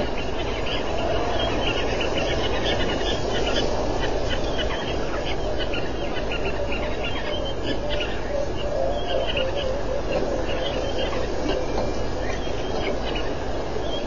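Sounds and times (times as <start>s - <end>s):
animals chirping: 0.0s - 14.0s.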